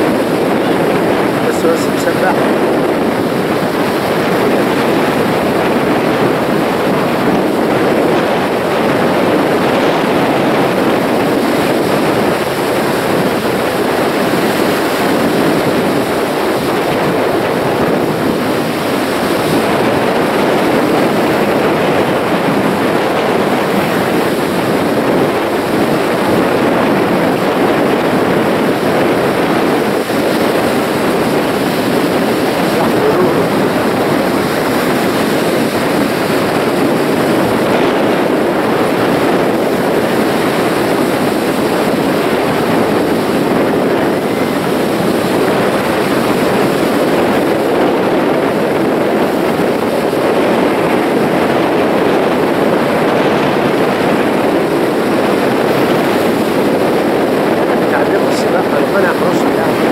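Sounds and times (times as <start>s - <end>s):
sea surf rushing: 0.0s - 59.9s.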